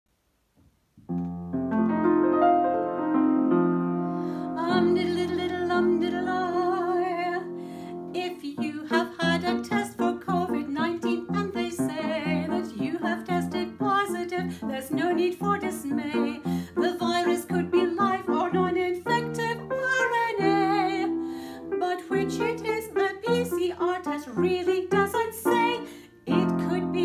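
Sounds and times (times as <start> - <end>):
upright piano playing: 1.0 - 27.0
woman singing: 4.4 - 27.0.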